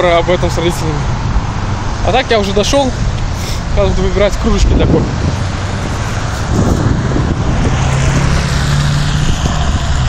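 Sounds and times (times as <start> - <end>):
cars passing on wet street: 0.0 - 10.0.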